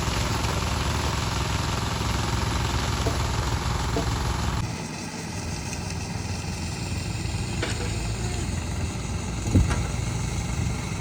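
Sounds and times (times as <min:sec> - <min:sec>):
engine running with pulsing rumble: 0:00.0 - 0:11.0.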